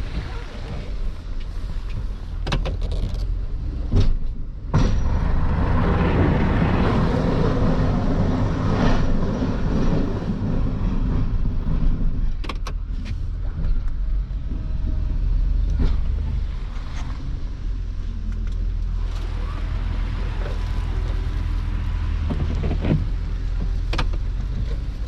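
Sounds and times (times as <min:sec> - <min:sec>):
truck engine running: 0:03.3 - 0:25.0.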